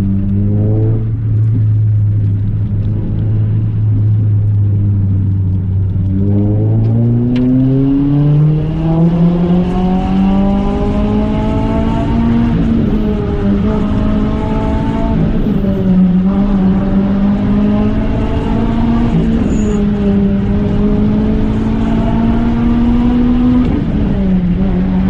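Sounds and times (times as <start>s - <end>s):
car engine from inside cabin: 0.0s - 25.0s.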